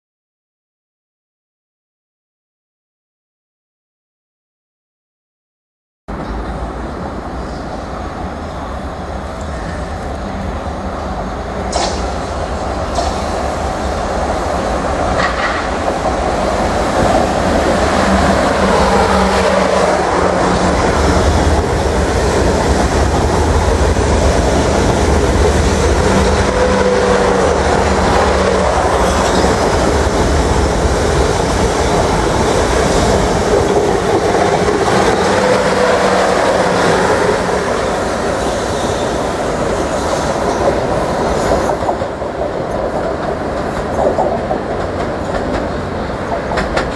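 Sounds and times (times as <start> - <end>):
train rolling rumble: 6.1 - 46.9.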